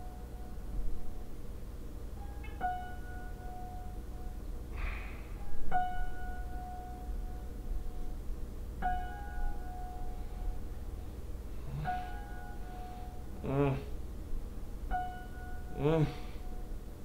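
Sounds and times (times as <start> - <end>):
steady low drone: 0.0 - 17.0.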